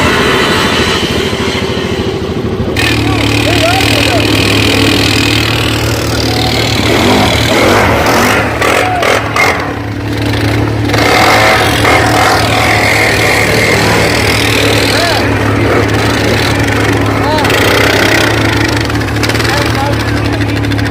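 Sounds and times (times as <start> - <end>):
mechanical and track noise: 0.0 - 20.9
off-road vehicle engine revving: 0.0 - 20.9.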